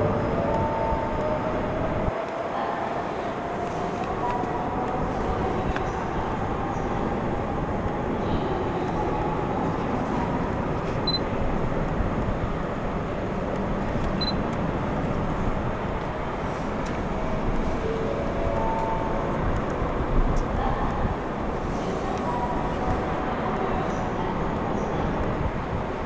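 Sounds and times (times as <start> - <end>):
constant rushing noise: 0.0 - 26.0.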